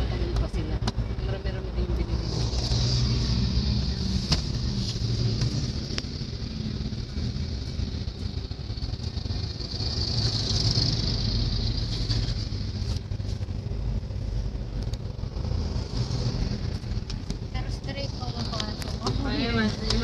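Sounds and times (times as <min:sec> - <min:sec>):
road rumble: 0:00.0 - 0:20.0.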